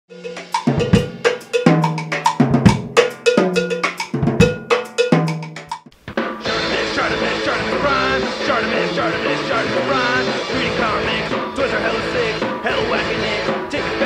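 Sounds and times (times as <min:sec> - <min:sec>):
drum-kit beat with cowbell: 0:00.1 - 0:14.0
full-band rock music: 0:00.2 - 0:14.0.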